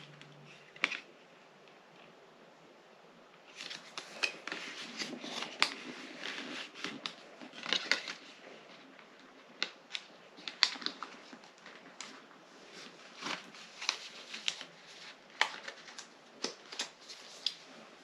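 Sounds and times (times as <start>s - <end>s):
paper and packaging rustling: 3.5s - 18.0s.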